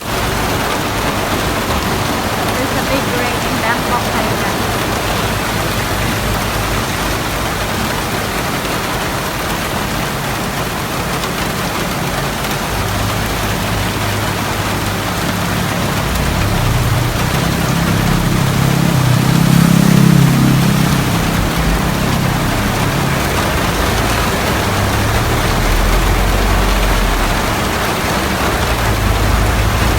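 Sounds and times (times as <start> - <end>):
heavy rain hissing: 0.0 - 29.9
vehicle engine hum: 0.0 - 29.9.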